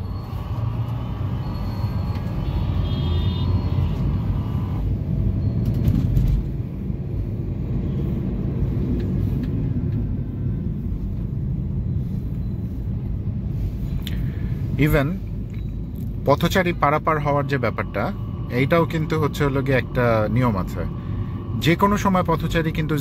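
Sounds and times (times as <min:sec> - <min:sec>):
bus passing alongside: 0:00.0 - 0:23.0
car engine and road noise: 0:00.0 - 0:23.0.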